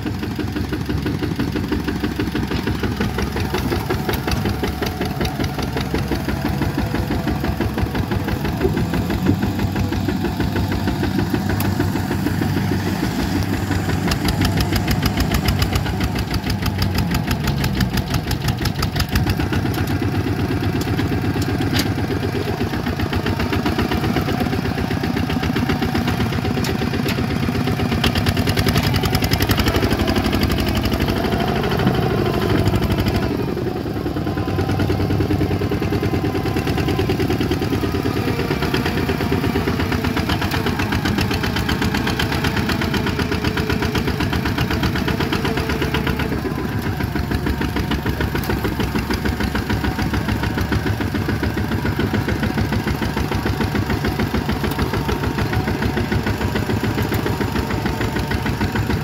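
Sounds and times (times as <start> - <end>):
tractor diesel engine chugging: 0.0 - 59.0.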